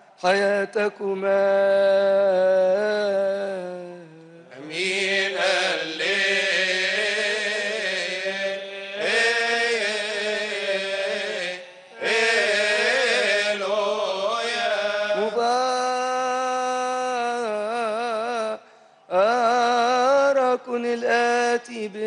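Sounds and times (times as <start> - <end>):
men chanting a hymn: 0.0 - 22.0.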